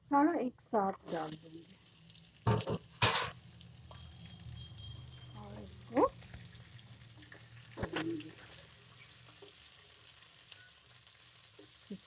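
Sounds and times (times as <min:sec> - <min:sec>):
vegetables sizzling in a pan: 0:00.6 - 0:12.0.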